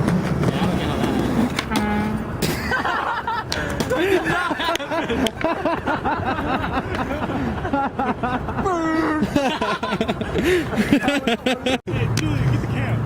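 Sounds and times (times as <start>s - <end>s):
voices talking and laughing: 2.4s - 13.0s.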